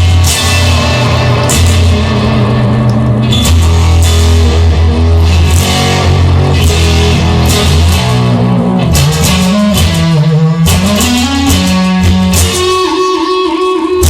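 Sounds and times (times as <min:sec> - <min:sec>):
instrumental guitar band music: 0:00.0 - 0:14.0.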